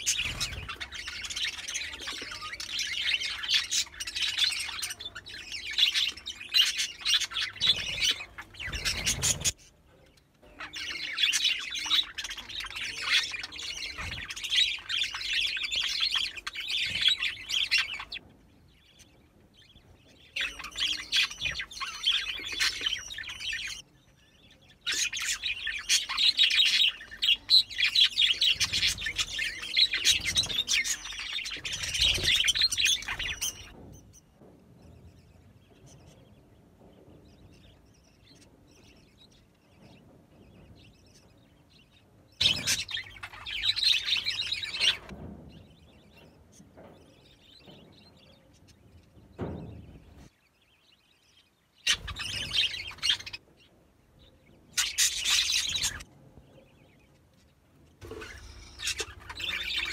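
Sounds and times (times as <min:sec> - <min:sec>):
budgerigars chattering and chirping: 0:00.0 - 0:18.2, 0:18.8 - 0:33.8, 0:37.3 - 0:51.1, 0:51.8 - 0:59.9.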